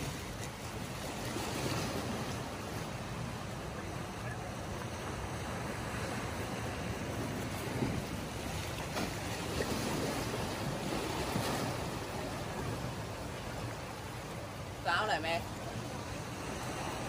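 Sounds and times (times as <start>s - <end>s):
waves breaking among rocks: 0.0s - 17.0s.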